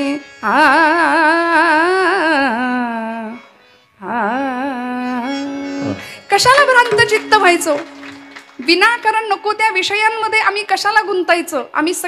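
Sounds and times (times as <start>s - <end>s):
woman singing with vibrato: 0.0s - 10.6s.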